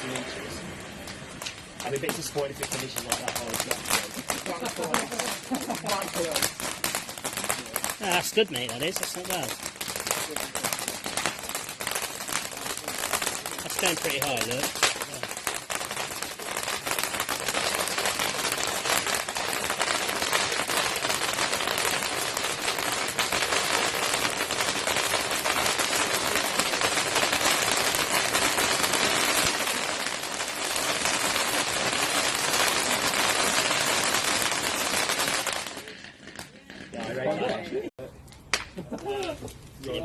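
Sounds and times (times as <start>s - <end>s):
firework fountain crackling: 0.0s - 40.0s.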